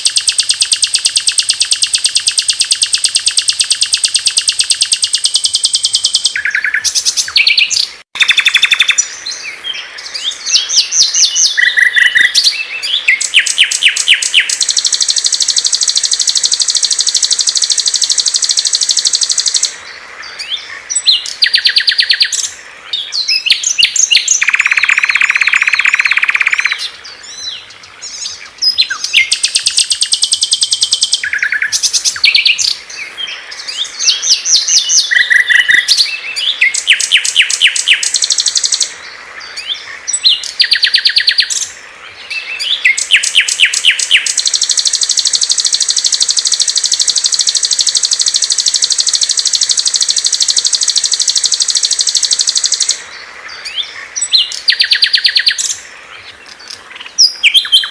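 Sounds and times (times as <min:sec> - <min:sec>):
songbird trills and chirps: 0:00.0 - 0:57.9.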